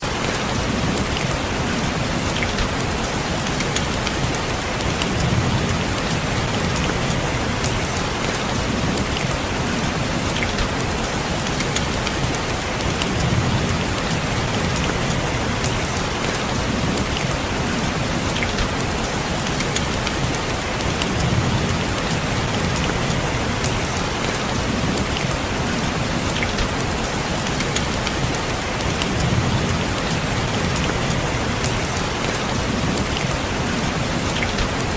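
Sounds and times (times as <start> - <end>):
rain on window glass: 0.0 - 34.9.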